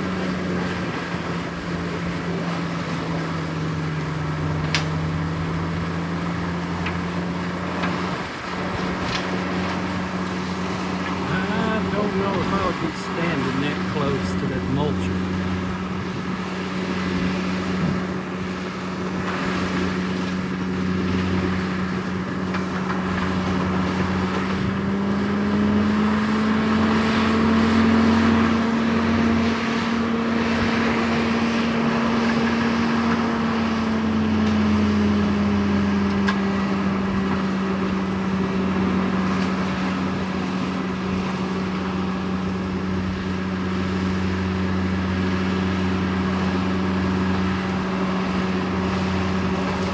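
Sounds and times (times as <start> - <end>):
diesel engine droning: 0.0 - 49.9.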